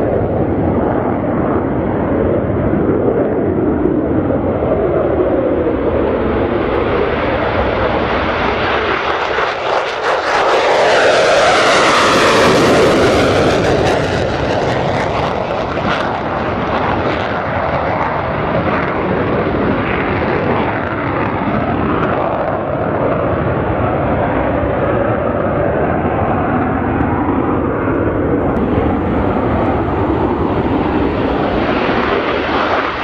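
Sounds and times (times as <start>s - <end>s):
jet engine roar during takeoff: 0.0s - 33.0s.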